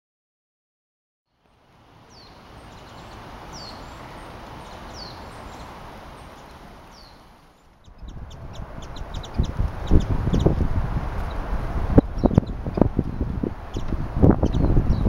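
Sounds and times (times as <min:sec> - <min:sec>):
songbird calling: 0:01.5 - 0:15.0.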